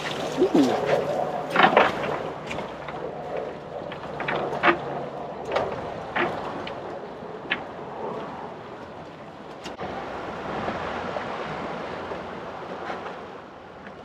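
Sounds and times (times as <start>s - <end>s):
water noise: 0.0s - 14.0s.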